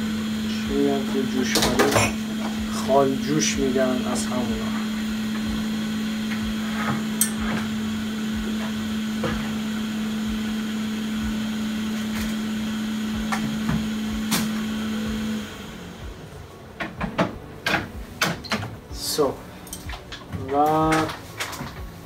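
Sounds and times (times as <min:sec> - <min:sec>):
electric motor hum: 0:00.0 - 0:22.0.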